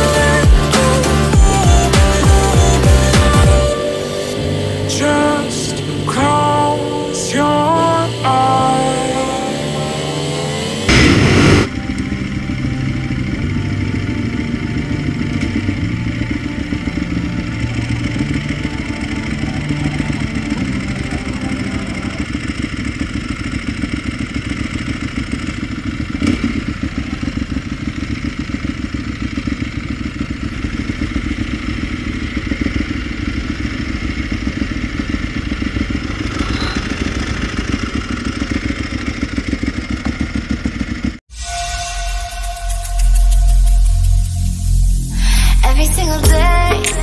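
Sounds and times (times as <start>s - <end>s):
motorcycle engine idling: 0.0s - 41.3s.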